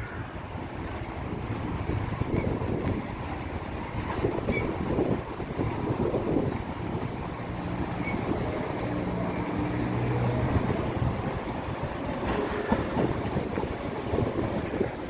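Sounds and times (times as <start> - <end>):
diesel train engine drone: 0.0 - 15.0
train wheels clicking over rails: 0.0 - 15.0.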